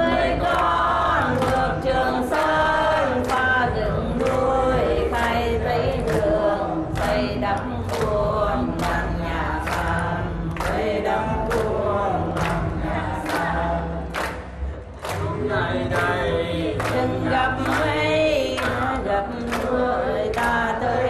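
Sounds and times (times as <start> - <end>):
woman singing into a microphone: 0.0 - 13.5, 16.7 - 21.0.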